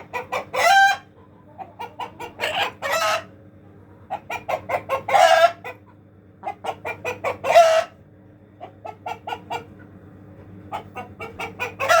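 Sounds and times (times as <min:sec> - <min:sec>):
chicken cackling: 0:00.0 - 0:08.0, 0:08.6 - 0:12.0.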